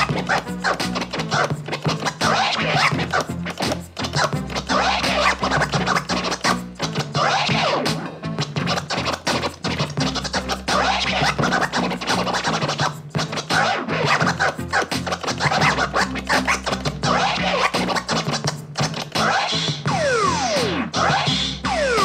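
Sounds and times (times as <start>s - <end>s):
hip hop beat: 0.0s - 22.0s
turntable scratching: 0.0s - 22.0s.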